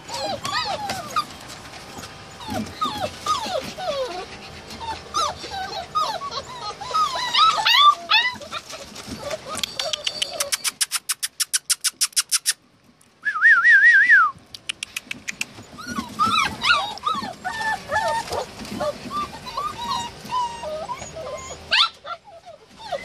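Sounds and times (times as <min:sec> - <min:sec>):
puppies whimpering and yipping: 0:00.0 - 0:12.6, 0:14.6 - 0:23.0.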